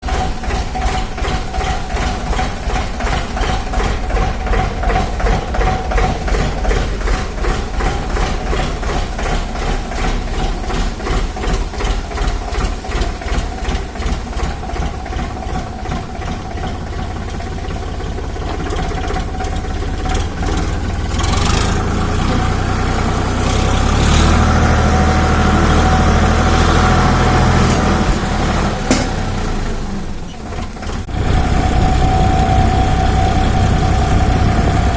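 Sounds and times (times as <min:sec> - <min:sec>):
engine chugging: 0:00.0 - 0:34.9.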